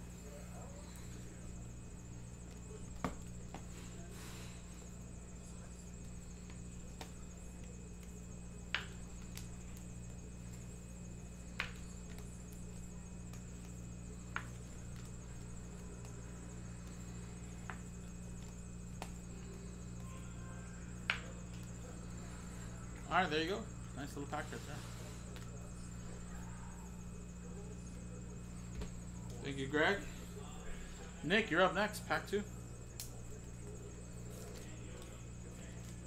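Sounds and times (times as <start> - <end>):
steady electrical hum: 0.0 - 36.0.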